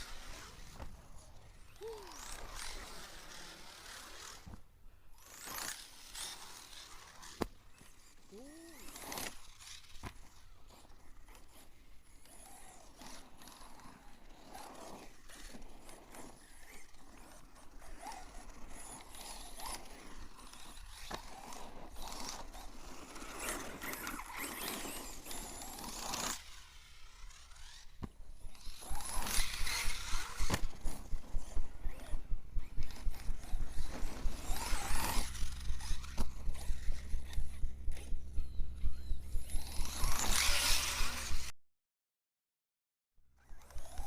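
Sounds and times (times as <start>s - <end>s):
rc car drivetrain grinding: 0.0s - 41.5s, 43.4s - 44.0s.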